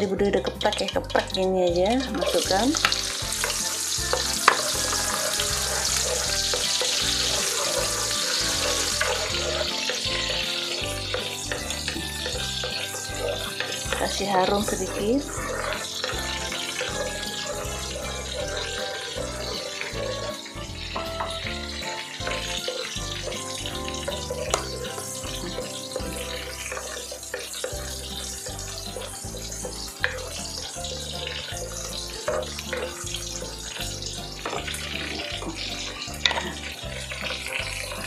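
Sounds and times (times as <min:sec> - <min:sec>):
background music: 0:00.0 - 0:38.0
garlic sizzling in hot oil: 0:00.0 - 0:38.0.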